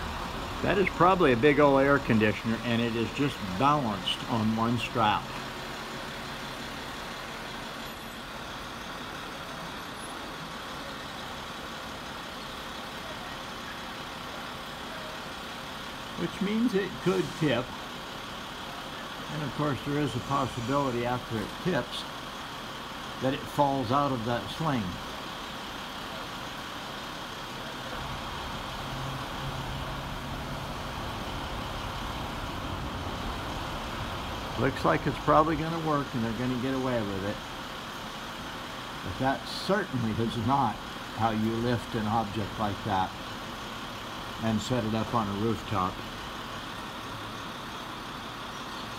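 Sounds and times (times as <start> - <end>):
crane engine droning: 0.0 - 48.9
traffic noise: 0.0 - 48.9.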